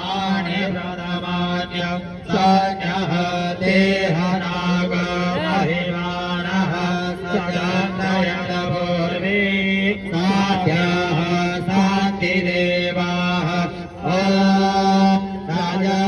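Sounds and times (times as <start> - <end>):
man chanting through loudspeaker: 0.0 - 16.0.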